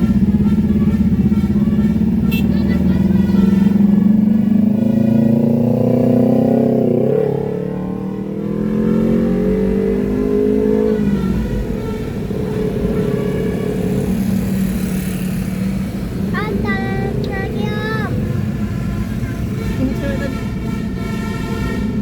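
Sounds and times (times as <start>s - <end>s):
vehicle engine accelerating: 0.0s - 20.8s.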